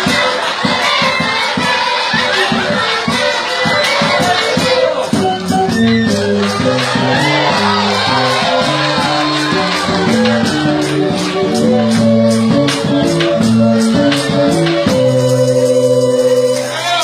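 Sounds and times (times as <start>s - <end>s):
percussion beat: 0.0s - 17.0s
school wind band playing: 0.0s - 17.0s.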